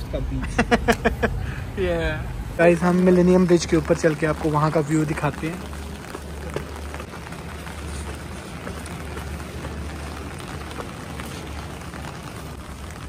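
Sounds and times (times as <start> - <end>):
rain on an umbrella: 0.0 - 13.0.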